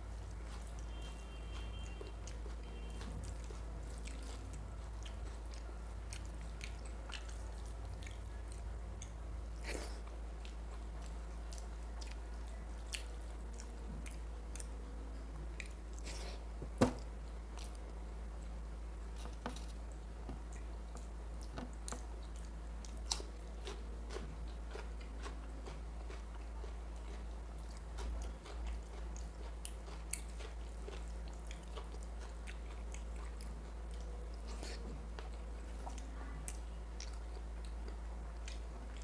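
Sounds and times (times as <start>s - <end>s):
chewing food: 0.0s - 39.0s.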